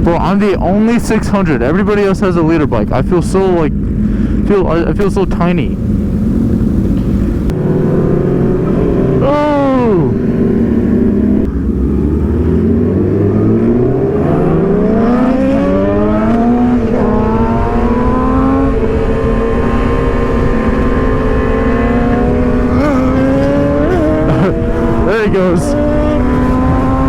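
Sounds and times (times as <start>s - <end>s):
wind noise: 0.0s - 27.0s
motorcycle engine accelerating: 3.2s - 27.0s.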